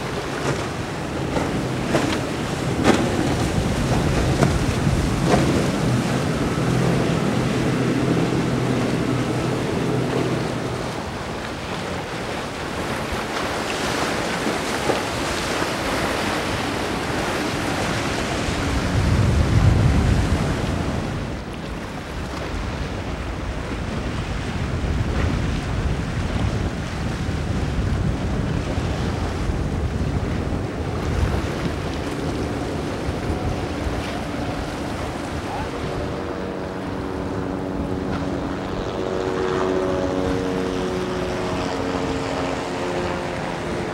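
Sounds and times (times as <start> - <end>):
hulls pounding through waves: 0.0 - 43.9
outboard engine drone: 0.0 - 43.9
wind on microphone: 0.0 - 43.9.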